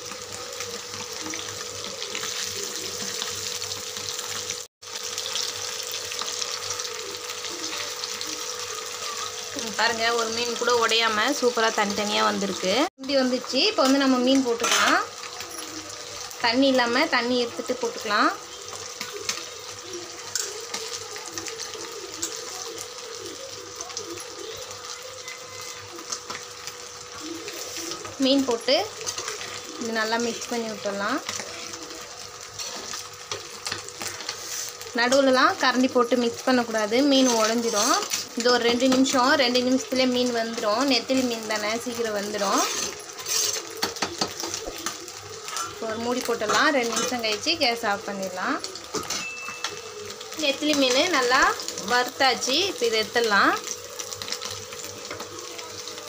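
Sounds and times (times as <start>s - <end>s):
oil sizzling and crackling: 0.0s - 56.0s.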